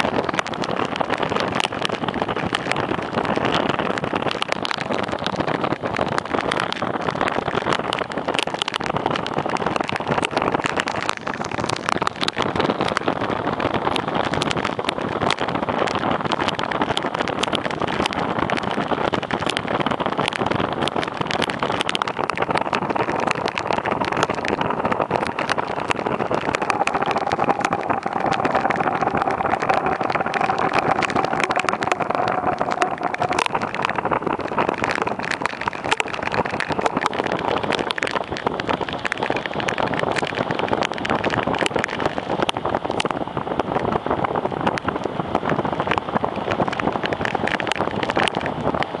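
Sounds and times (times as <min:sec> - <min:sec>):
storm wind and rain: 0:00.0 - 0:49.0
wind crackling on microphone: 0:00.0 - 0:49.0.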